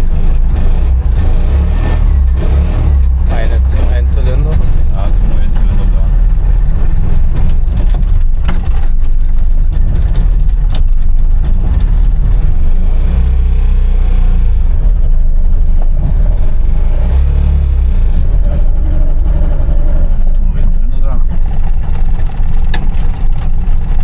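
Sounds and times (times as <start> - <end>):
two-stroke car engine rumbling: 0.0 - 24.0.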